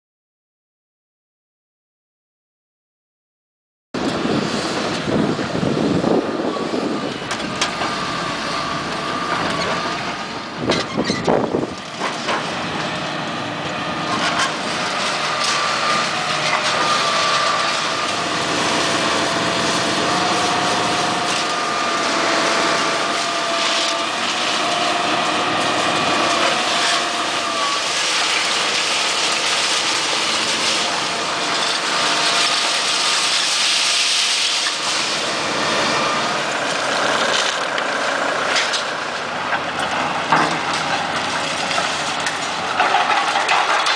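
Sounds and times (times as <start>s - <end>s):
excavator engine running: 4.0s - 43.9s
hydraulic whine: 4.0s - 43.9s.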